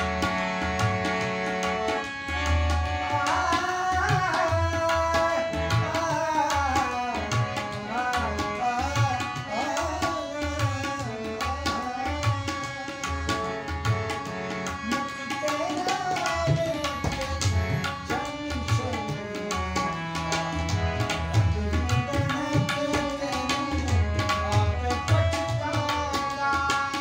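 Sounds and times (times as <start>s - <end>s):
harmonium chords: 0.0s - 27.0s
tabla drumming: 0.0s - 27.0s
man singing: 3.1s - 27.0s.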